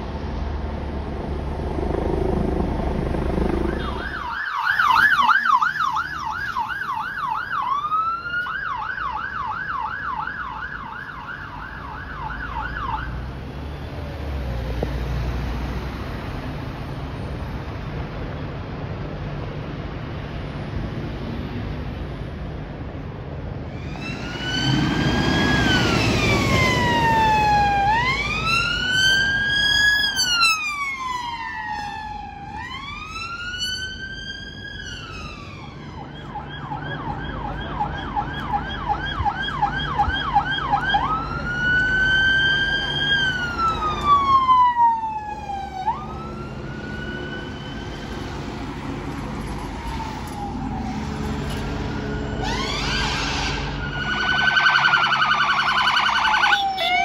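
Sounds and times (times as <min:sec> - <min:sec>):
emergency vehicle siren: 0:01.4 - 0:14.6, 0:23.6 - 0:57.0.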